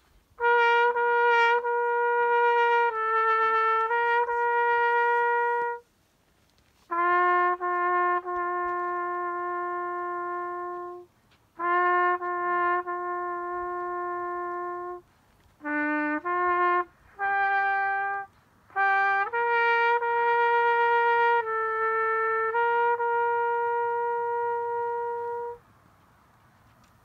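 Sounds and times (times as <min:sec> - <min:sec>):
solo trumpet melody: 0:00.0 - 0:25.7.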